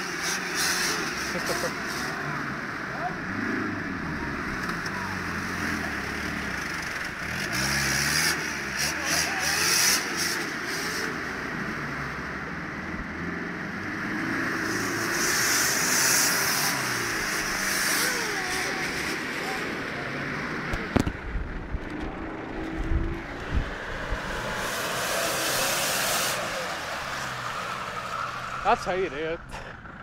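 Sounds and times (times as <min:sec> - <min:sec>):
engine revving: 0:00.0 - 0:30.0.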